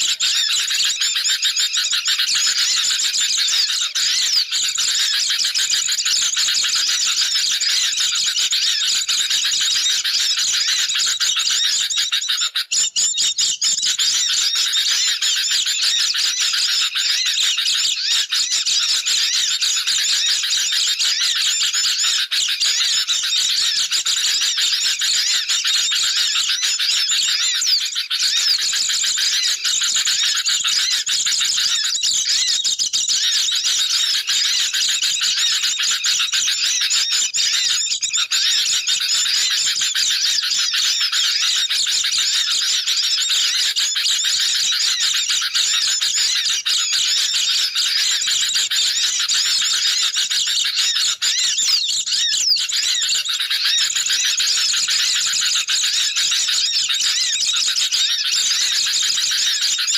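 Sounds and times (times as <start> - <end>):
flock of birds chattering: 0.0 - 59.9.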